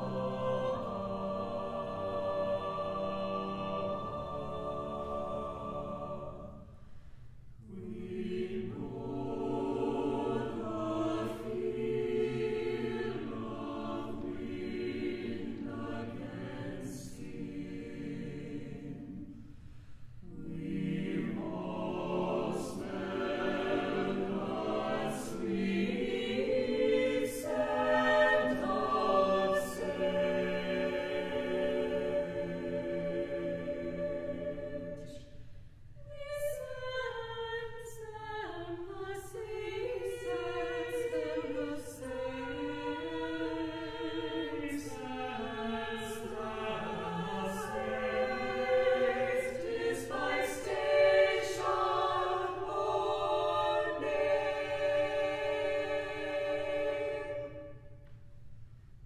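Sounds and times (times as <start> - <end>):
choir singing: 0.0 - 6.8, 7.6 - 35.4, 36.0 - 58.2.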